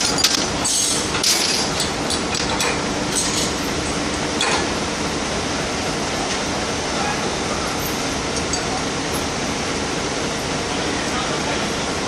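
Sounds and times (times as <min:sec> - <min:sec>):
heavy machinery running: 0:00.0 - 0:12.0.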